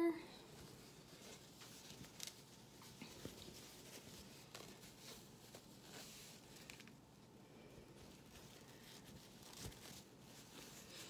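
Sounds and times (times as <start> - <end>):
soft crackles: 0.0 - 11.0
fabric rustling: 0.4 - 11.0.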